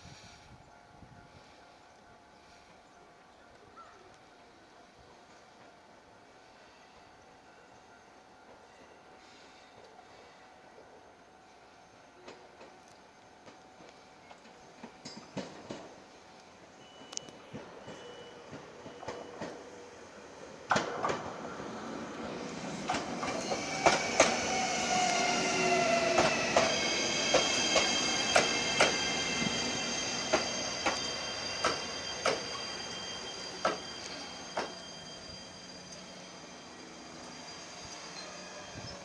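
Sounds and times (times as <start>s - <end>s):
high-pitched train whine: 0.0s - 39.0s.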